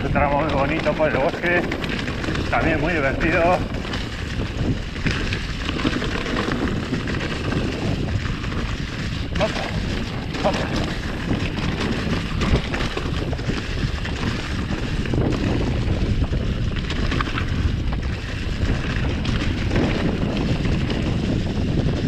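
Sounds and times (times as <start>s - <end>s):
tyres rolling over leaves: 0.0s - 21.5s
bike clicks and rattles: 0.0s - 22.0s
wind buffeting microphone: 0.0s - 22.0s.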